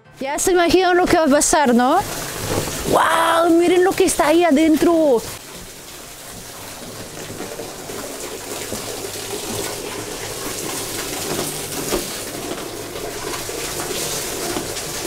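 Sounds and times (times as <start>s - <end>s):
water pouring into pool: 1.0s - 15.0s.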